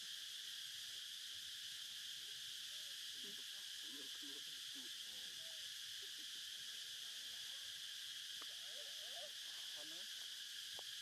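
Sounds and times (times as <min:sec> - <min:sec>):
insect chorus droning: 0:00.0 - 0:11.0.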